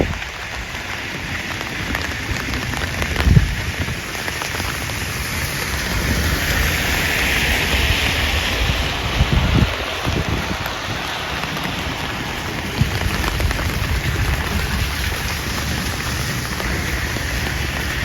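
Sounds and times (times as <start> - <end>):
steady rain on wet street: 0.0 - 18.0
tyres hissing on wet pavement: 0.0 - 18.0.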